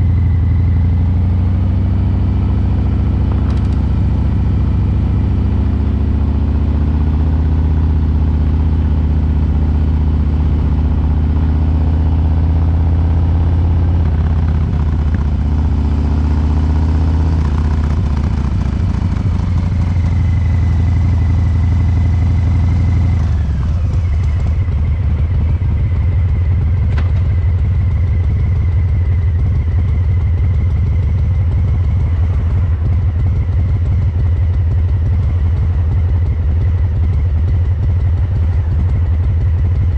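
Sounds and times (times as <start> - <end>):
motorcycle engine running and idling: 0.0 - 39.9.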